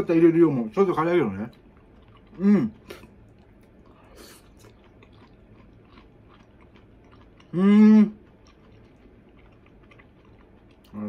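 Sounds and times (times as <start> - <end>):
closed-mouth hum: 1.3 - 11.0
person chewing food: 1.4 - 11.0.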